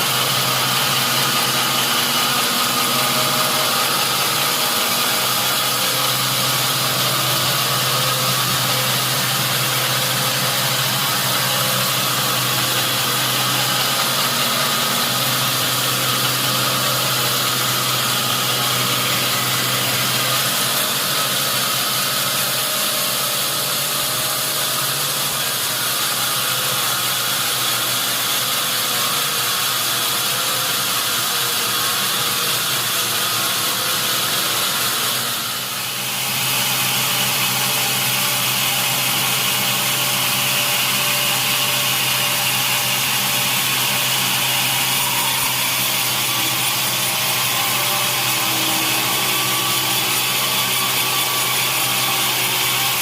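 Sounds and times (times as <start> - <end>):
saw motor humming: 0.0 - 53.0.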